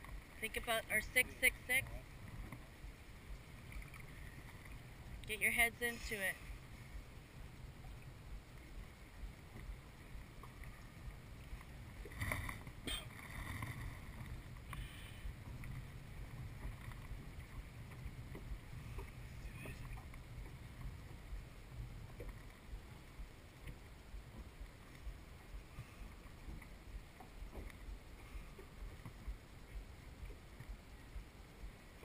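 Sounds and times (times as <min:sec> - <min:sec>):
water lapping against boat hull: 0:00.0 - 0:32.0
wind rumble on microphone: 0:00.0 - 0:32.0.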